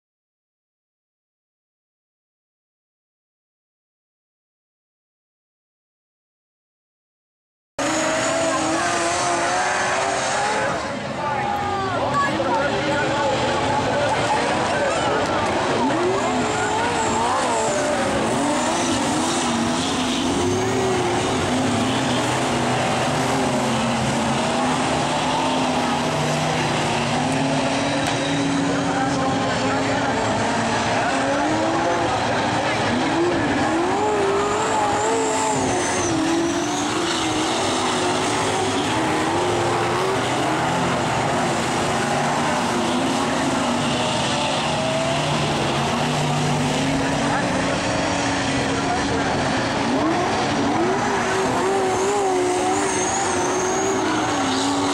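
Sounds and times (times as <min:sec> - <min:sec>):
race car engines: 0:07.8 - 0:54.9.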